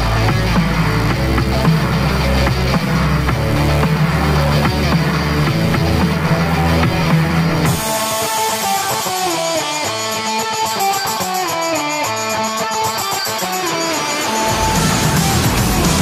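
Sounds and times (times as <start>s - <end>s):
music with guitar and drums: 0.0s - 16.0s
plucked guitar notes: 0.0s - 16.0s.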